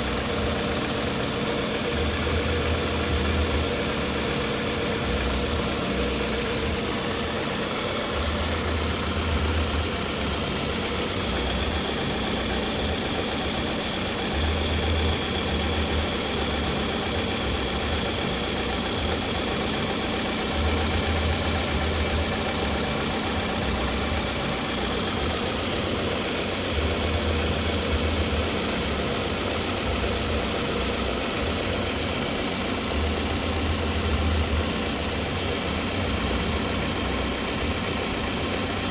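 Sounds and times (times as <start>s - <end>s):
car engine idling with misfire: 0.0s - 38.9s.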